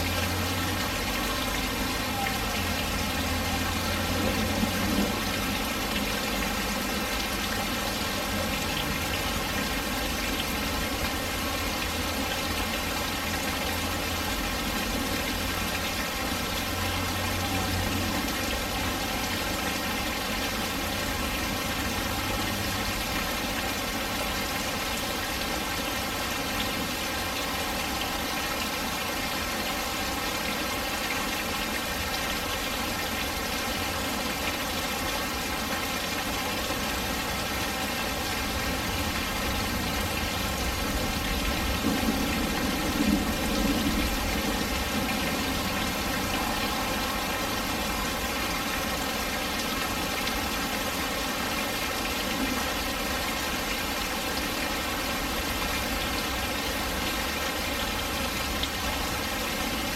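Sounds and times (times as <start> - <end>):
rain falling on patio: 0.0 - 59.9.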